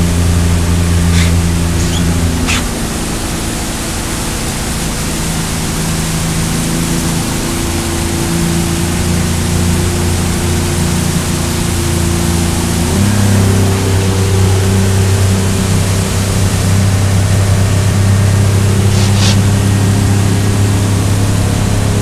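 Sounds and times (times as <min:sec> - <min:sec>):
outboard motor running: 0:00.0 - 0:22.0
wind and water rushing: 0:00.0 - 0:22.0.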